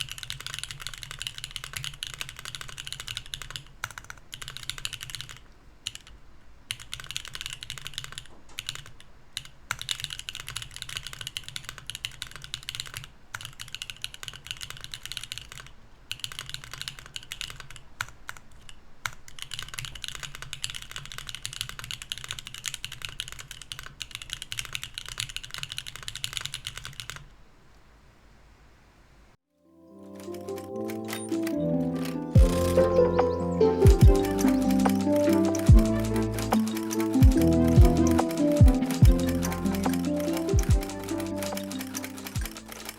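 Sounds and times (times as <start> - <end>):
mechanical keyboard typing: 0.0 - 27.3, 30.1 - 42.9.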